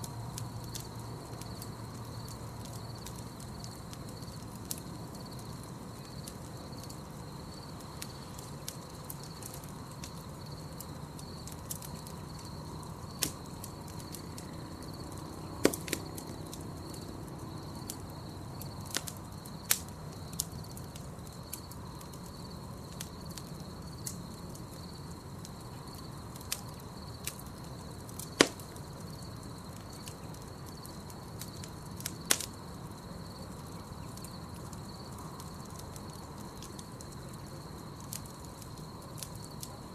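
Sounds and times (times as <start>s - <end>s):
campfire burning: 0.0s - 39.9s
fire crackling and popping: 0.0s - 39.9s
high insect trill: 0.0s - 39.9s.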